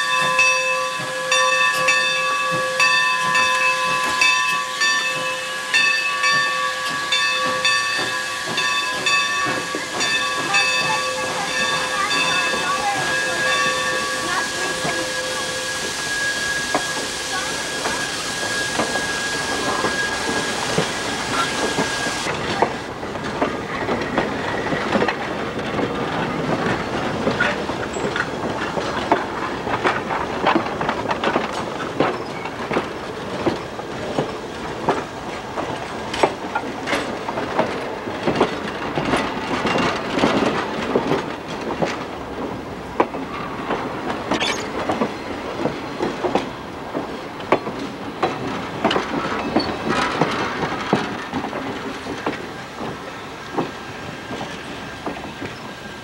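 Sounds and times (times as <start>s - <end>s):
train rumble: 0.0s - 56.0s
train wheels clicking over rail joints: 0.0s - 56.0s.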